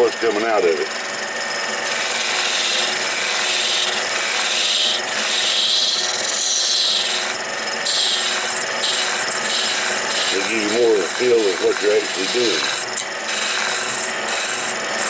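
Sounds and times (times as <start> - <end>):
lathe tool scraping wood: 0.0 - 15.0.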